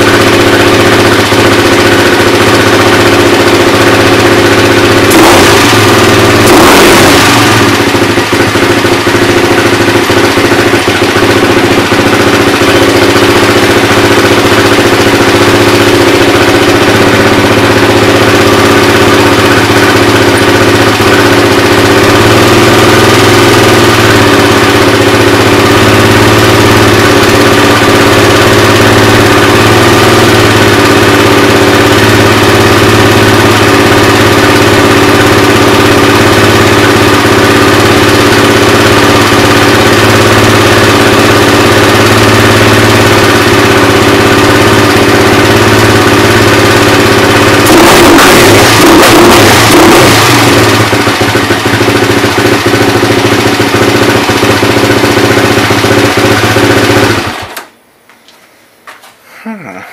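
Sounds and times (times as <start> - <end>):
atv engine idling: 0.0 - 57.7.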